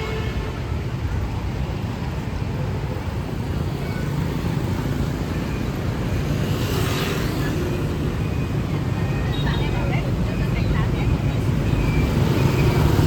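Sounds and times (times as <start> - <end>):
passing vehicles rumble: 0.0 - 13.0.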